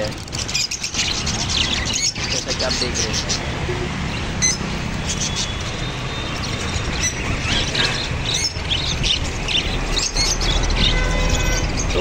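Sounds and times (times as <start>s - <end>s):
birds chirping and squawking: 0.0s - 12.0s
street traffic rumble: 0.0s - 12.0s.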